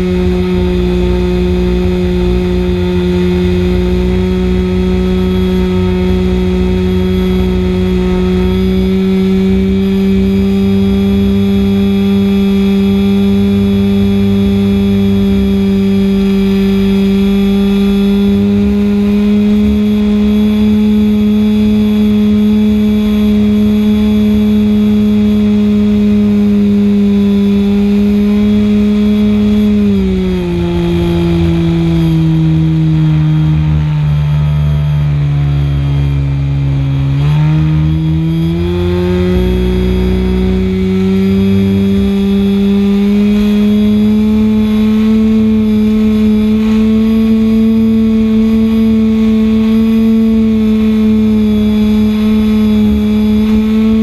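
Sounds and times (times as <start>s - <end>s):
model plane engine buzzing: 0.0s - 54.0s
wind rumble on microphone: 0.0s - 54.0s.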